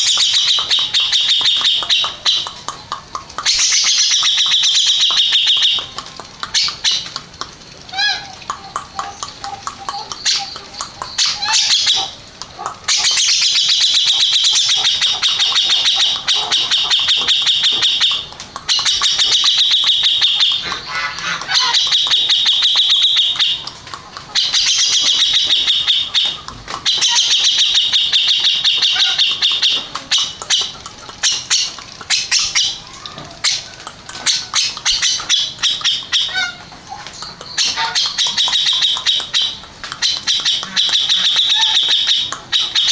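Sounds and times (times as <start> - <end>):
bulbul singing rattling trills: 0.0 - 42.9.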